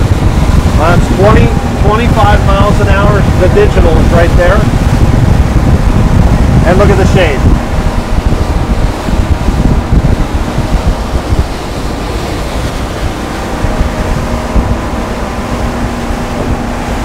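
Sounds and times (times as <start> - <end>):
outboard engine tone: 0.0 - 17.0
water rushing past hull: 0.0 - 17.0
wind buffeting microphone: 0.0 - 17.0.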